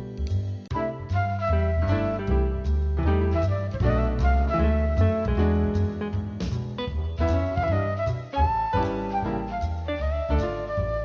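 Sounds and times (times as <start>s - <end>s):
instrumental music with guitar: 0.0s - 11.0s.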